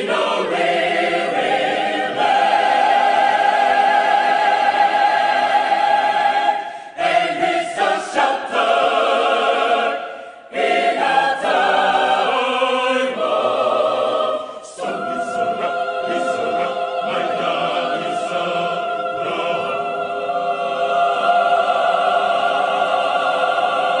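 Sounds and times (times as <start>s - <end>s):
choir singing in harmony: 0.0s - 24.0s.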